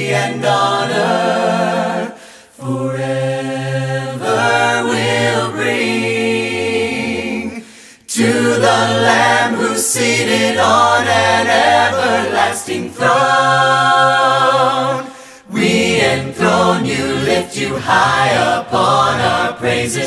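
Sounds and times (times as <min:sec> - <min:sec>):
congregation singing unaccompanied: 0:00.0 - 0:20.0.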